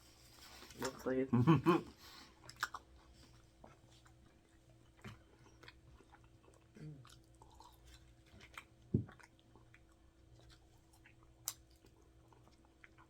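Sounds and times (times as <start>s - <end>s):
chewing and wet mouth sounds: 2.0s - 13.0s.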